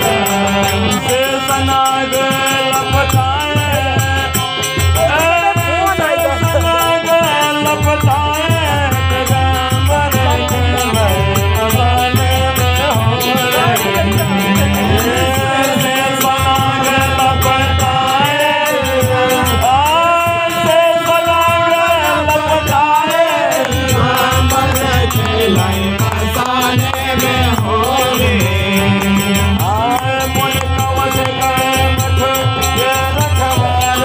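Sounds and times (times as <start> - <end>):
harmonium tones: 0.0 - 34.0
person singing folk song: 0.0 - 34.0
rattling percussion: 0.0 - 34.0.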